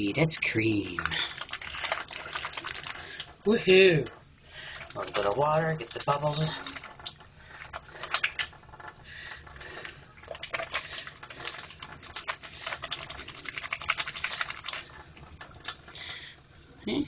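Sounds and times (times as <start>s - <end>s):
wet hands lathering soap: 0.0s - 16.7s.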